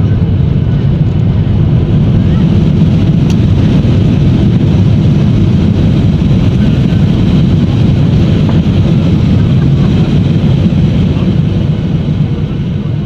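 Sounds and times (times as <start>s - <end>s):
jet engine roar: 0.0s - 13.0s
wheels rumbling on runway: 0.0s - 13.0s.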